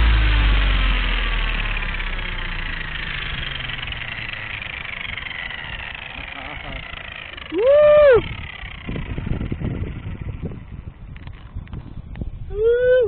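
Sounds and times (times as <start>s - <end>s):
helicopter rotor spooling down: 0.0s - 13.0s.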